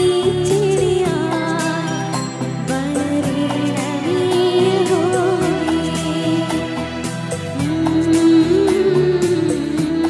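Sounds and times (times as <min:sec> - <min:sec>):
boy singing into a microphone: 0:00.0 - 0:02.1, 0:02.7 - 0:06.8, 0:07.6 - 0:10.0
instrumental music with beat: 0:00.0 - 0:10.0.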